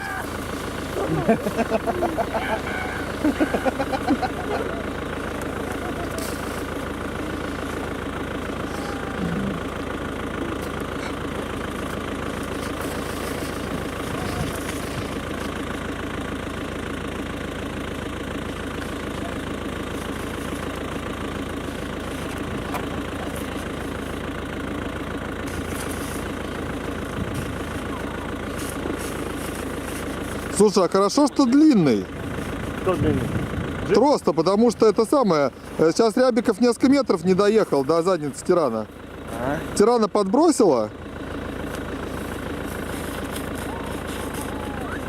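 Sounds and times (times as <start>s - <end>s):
vehicle engine idling: 0.0s - 45.0s.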